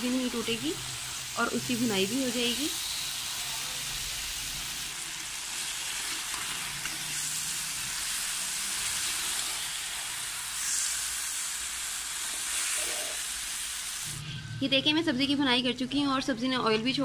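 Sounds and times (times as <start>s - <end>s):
vegetables sizzling in oil: 0.0s - 14.2s.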